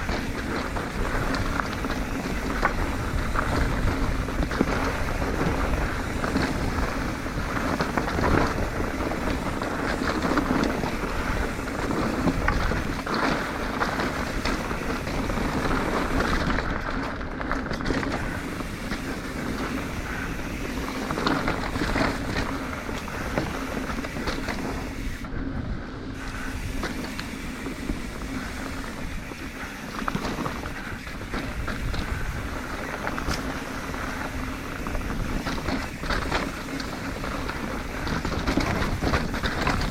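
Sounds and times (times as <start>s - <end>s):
bike rattling: 0.0s - 39.9s
tyres rolling on dirt and rock: 0.0s - 39.9s
wind over microphone: 0.0s - 39.9s.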